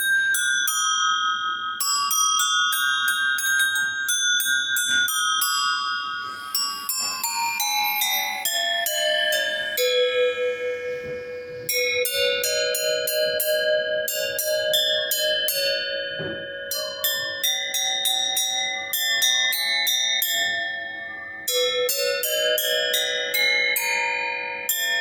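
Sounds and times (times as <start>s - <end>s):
ringtone melody on bells: 0.0s - 25.0s.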